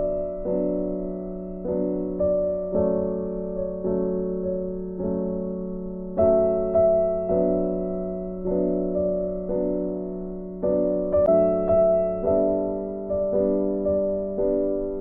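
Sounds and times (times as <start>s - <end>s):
electric piano held chords: 0.0s - 15.0s.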